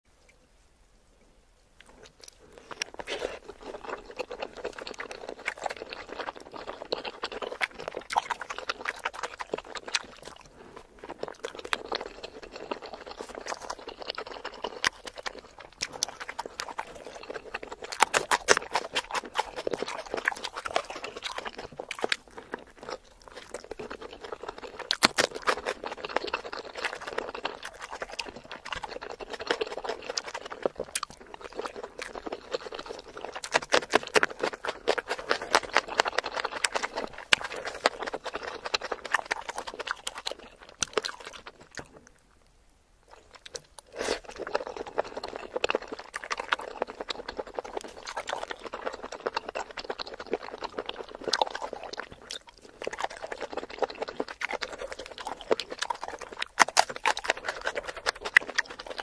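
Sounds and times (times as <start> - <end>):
wet chewing and crunching: 1.8 - 59.0.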